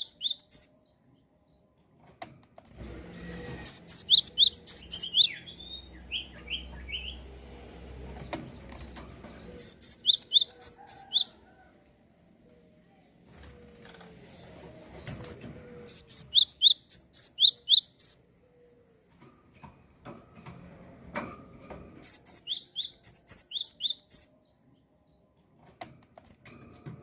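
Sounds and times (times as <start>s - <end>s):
songbird chirping: 0.0s - 2.2s, 3.2s - 19.3s, 22.0s - 25.7s.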